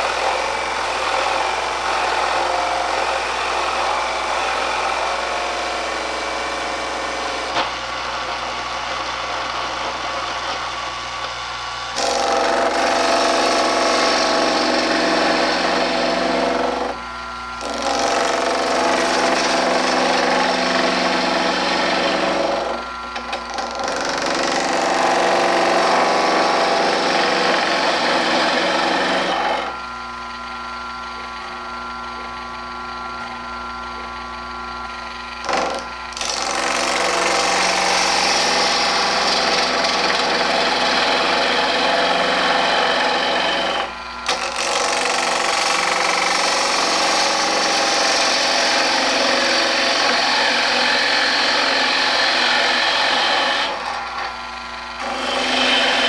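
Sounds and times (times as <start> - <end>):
lathe motor hum: 0.0 - 56.0
turning tool cutting wood: 0.0 - 56.0.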